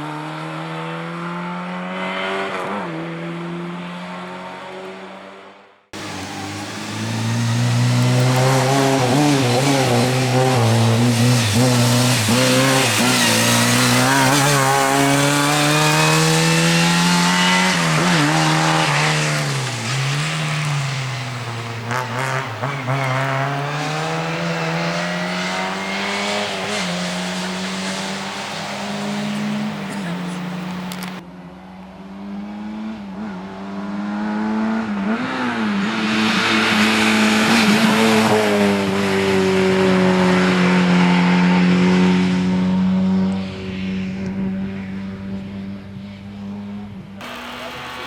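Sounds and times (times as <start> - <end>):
rally car engine revving: 0.0 - 31.2, 31.8 - 48.0.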